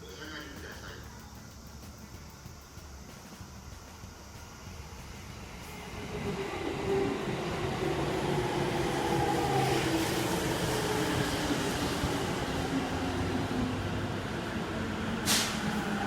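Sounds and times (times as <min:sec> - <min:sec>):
electric train approaching: 0:00.0 - 0:16.0
train running noise whining: 0:00.0 - 0:16.0.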